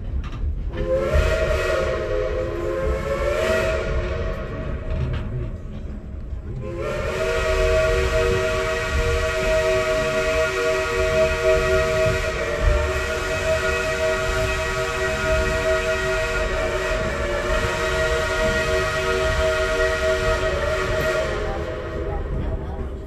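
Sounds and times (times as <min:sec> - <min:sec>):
train rolling rumble: 0:00.0 - 0:23.0
steam locomotive chime whistle: 0:00.8 - 0:04.9, 0:06.6 - 0:22.4.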